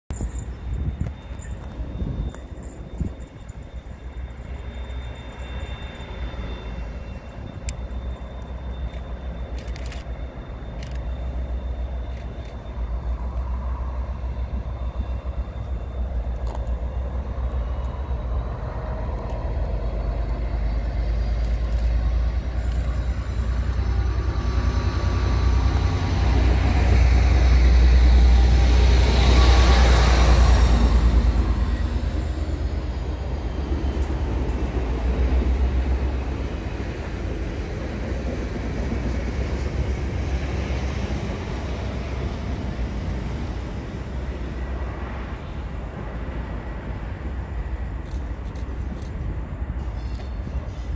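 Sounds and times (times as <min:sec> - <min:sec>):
diesel locomotive engine rumbling: 0:00.1 - 0:50.9
wheel and rail noise: 0:00.1 - 0:50.9.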